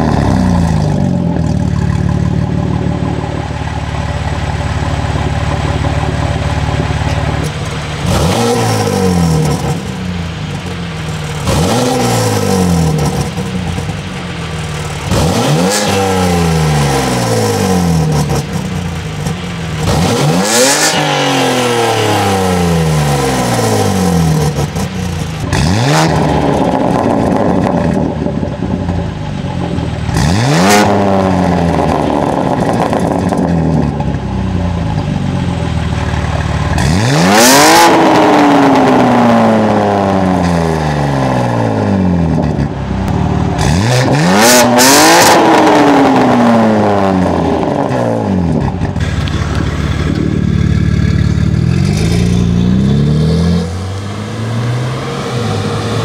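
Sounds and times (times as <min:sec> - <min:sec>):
car engine revving: 0:00.0 - 0:56.0
car pulling away: 0:00.0 - 0:56.0.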